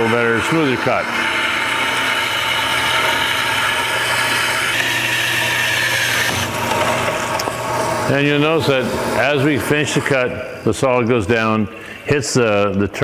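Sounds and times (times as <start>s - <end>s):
band saw motor hum: 0.0s - 12.1s.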